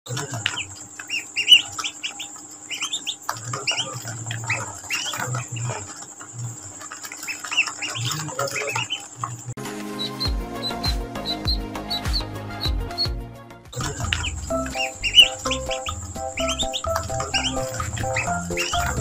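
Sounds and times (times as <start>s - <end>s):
ducklings peeping: 0.1s - 13.2s, 13.8s - 19.0s.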